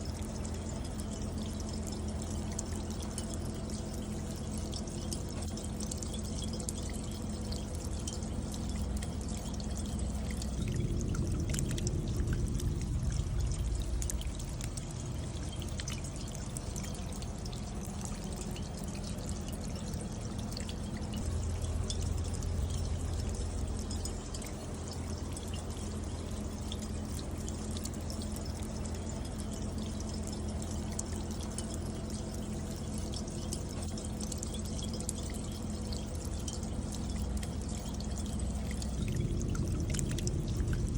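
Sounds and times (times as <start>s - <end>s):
running water rumble: 0.0s - 40.9s
water drops ticking on copper: 0.0s - 40.9s.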